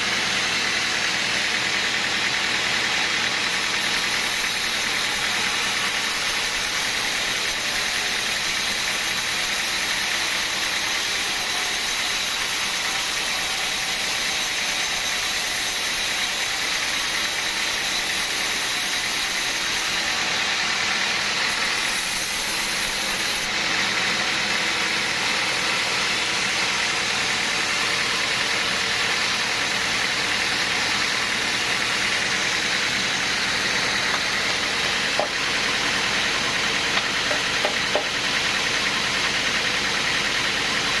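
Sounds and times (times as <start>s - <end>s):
sawmill machinery running: 0.0s - 41.0s.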